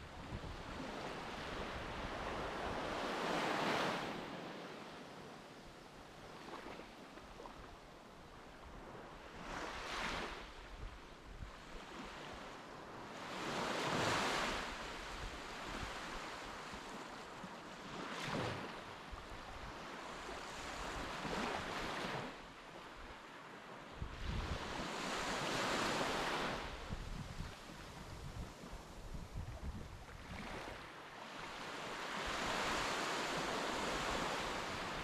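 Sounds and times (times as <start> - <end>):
waves breaking on a beach: 0.0 - 35.0.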